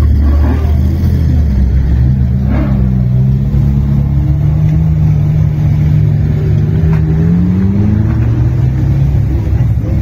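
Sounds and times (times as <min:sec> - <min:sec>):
sports car engines: 0:00.0 - 0:10.0.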